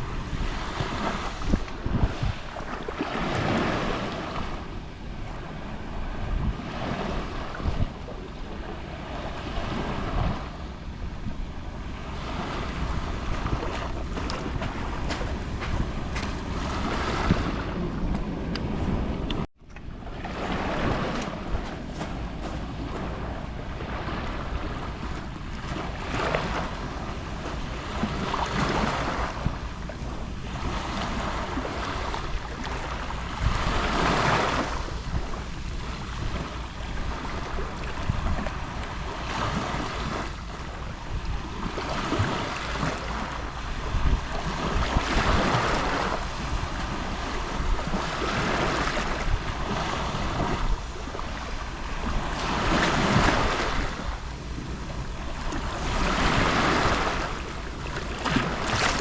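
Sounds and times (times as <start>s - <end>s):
sea waves lapping on shore: 0.0s - 59.0s
wind rumble on microphone: 0.0s - 59.0s.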